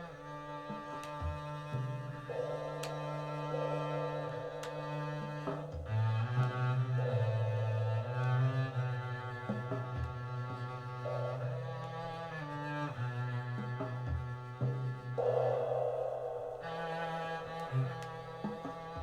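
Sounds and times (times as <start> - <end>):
bowed double bass: 0.0 - 19.0.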